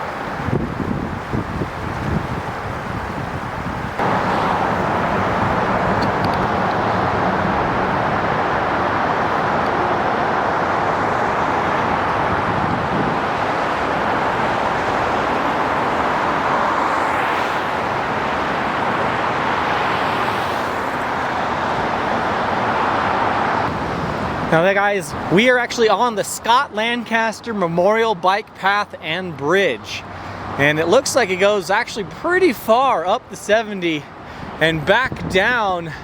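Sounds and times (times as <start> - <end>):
highway traffic noise: 0.0 - 36.0
vehicles passing by: 0.0 - 36.0.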